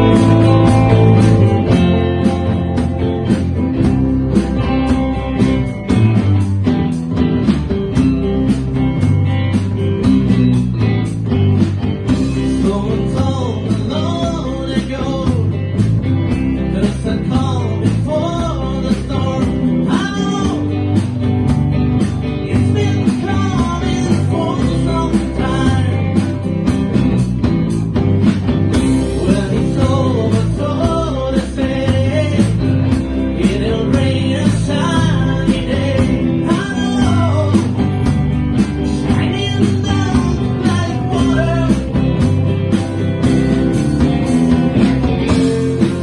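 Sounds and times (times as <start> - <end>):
rock band playing: 0.0 - 46.0.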